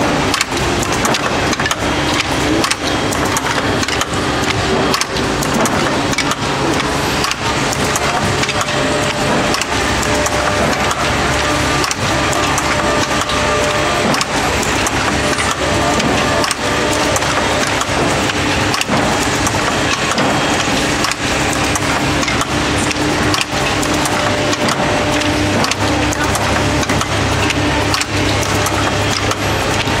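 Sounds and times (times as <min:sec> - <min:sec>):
machine wooden clacks and knocks: 0:00.0 - 0:30.0.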